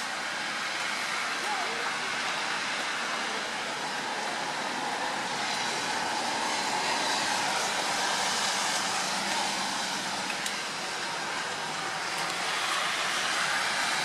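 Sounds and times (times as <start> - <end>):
strong wind and rain: 0.0 - 14.0.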